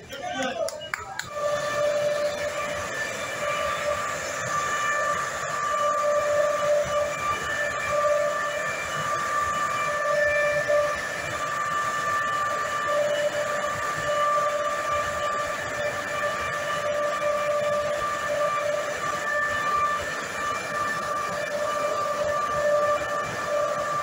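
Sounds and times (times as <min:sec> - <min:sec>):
machinery whine with pitched tones: 0:00.0 - 0:24.0.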